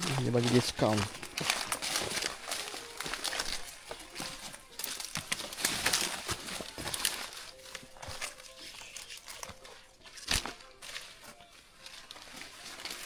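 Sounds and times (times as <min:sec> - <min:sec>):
footsteps crunching on forest trail: 0:00.0 - 0:13.0.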